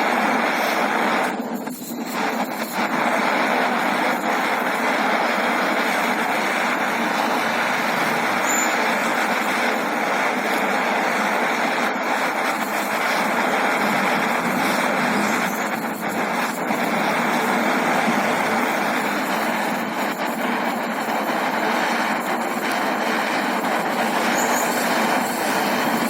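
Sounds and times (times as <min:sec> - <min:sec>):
gas torch flame hissing: 0:00.0 - 0:26.0.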